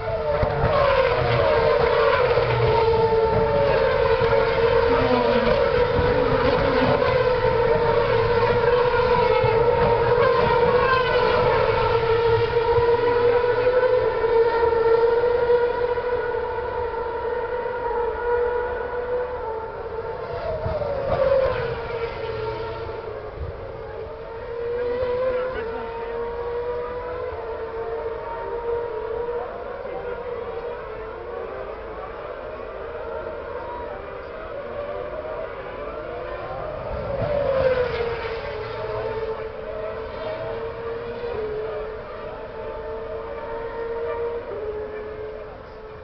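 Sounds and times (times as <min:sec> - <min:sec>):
racing car engine at high revs: 0:00.0 - 0:46.0.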